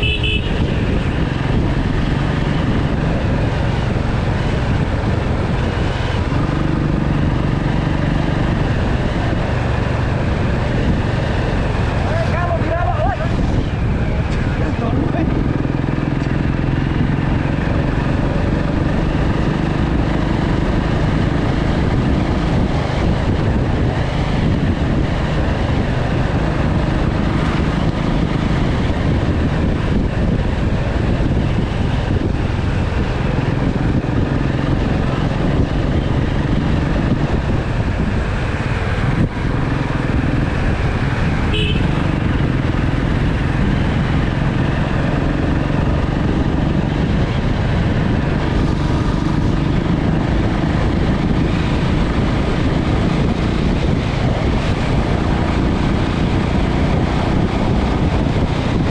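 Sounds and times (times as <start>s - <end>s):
motorcycle engine running: 0.0s - 58.9s
road noise: 0.0s - 58.9s.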